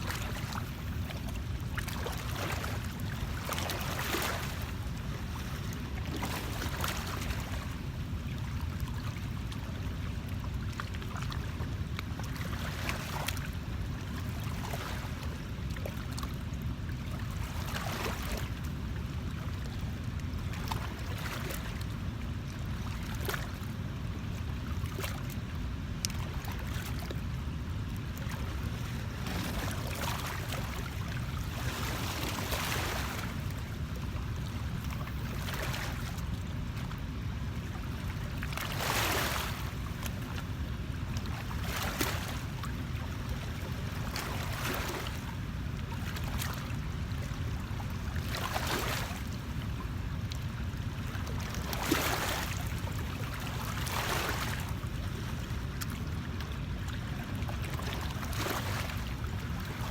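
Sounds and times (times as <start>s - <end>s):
river water rumble: 0.0s - 59.9s.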